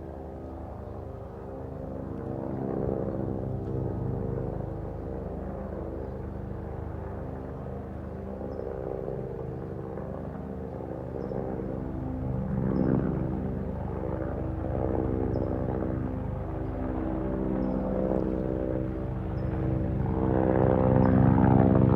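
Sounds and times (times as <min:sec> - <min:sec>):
helicopter rotor and engine: 0:00.0 - 0:21.9.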